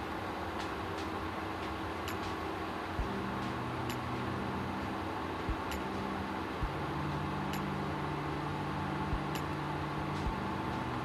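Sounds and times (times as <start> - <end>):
cooktop fan humming: 0.0 - 11.0.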